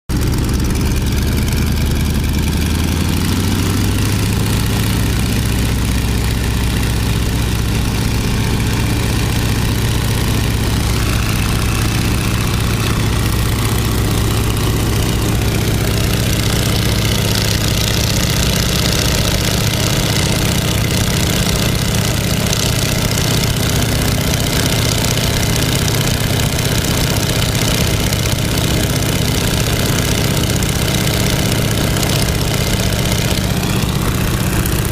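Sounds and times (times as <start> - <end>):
biplane radial engine droning: 0.1 - 34.9.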